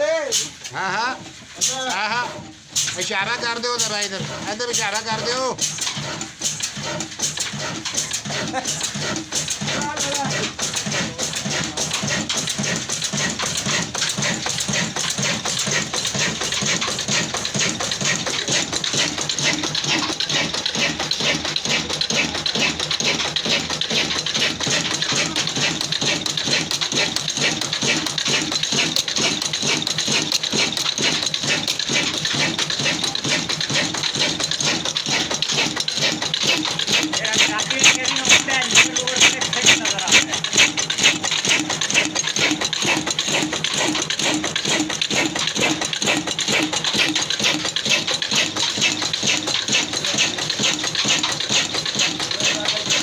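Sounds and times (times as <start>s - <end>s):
diesel engine running: 6.7s - 53.0s.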